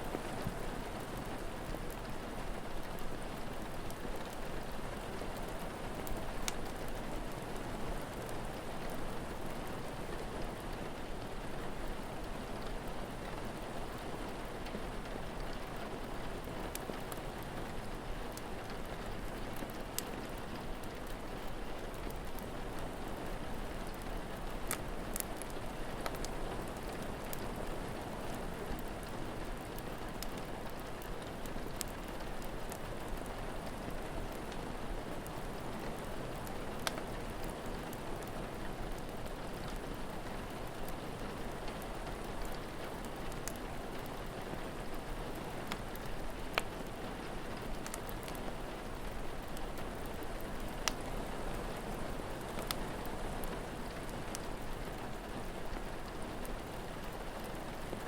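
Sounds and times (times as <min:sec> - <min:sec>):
steady rain falling: 0:00.0 - 0:58.0
wood fire crackling: 0:00.0 - 0:58.0.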